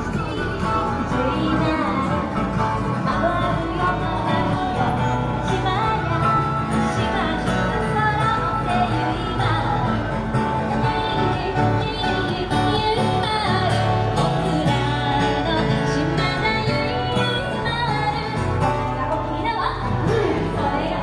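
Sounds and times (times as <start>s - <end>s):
person singing: 0.0s - 21.0s
plucked strings: 0.0s - 21.0s.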